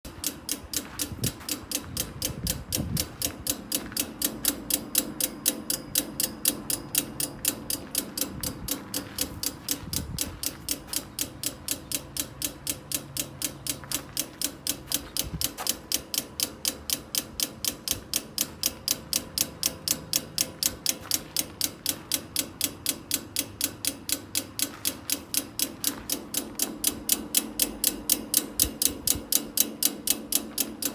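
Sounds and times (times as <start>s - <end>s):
air conditioner rapid clicking: 0.0s - 30.9s.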